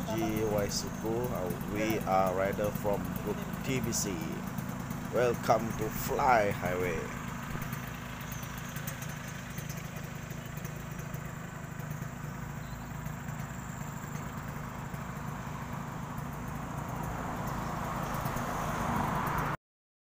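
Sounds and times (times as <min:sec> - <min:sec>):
engine idling: 0:00.0 - 0:19.5.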